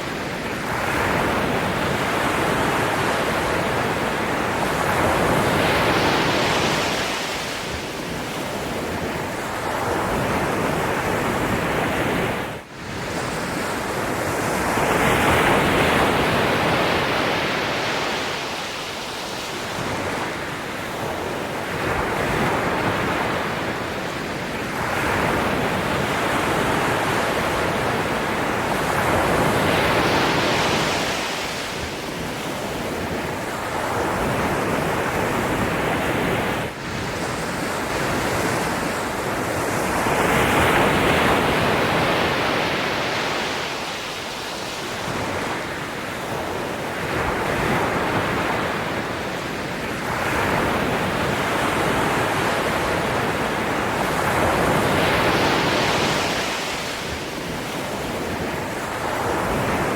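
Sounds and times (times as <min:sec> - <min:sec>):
ocean surf washing ashore: 0:00.0 - 0:59.9.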